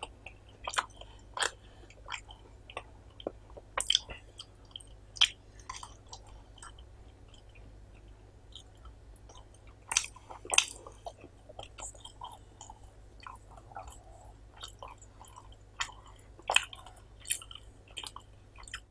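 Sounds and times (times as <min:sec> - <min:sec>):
chewing food: 0:00.0 - 0:18.9.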